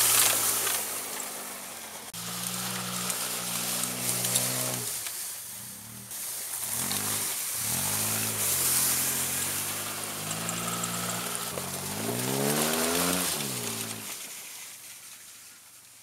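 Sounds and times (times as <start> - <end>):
car engine revving: 0.0 - 14.2
tire noise on snow: 0.0 - 16.0.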